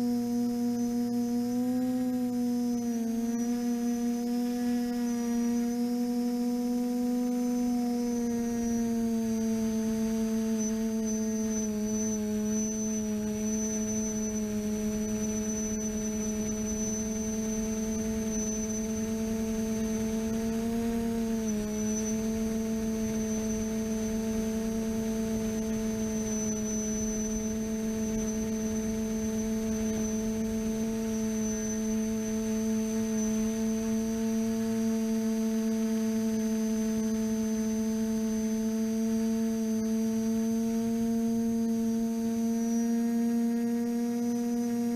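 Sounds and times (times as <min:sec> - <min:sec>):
drone propellers humming: 0:00.0 - 0:44.9
faint high whine: 0:00.0 - 0:44.9.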